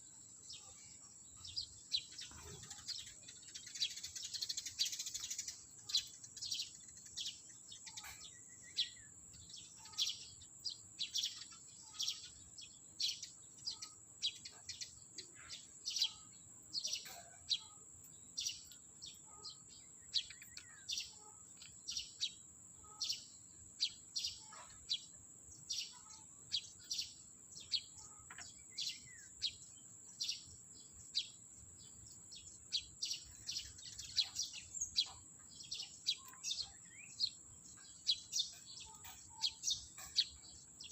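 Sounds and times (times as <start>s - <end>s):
sparrows chirping: 0.0s - 40.9s.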